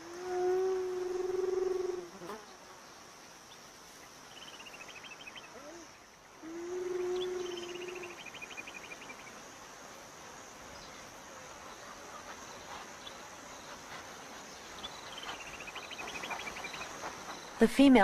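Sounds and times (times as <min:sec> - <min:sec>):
crickets droning: 0:00.0 - 0:18.0
insect chirping trill: 0:00.0 - 0:18.0.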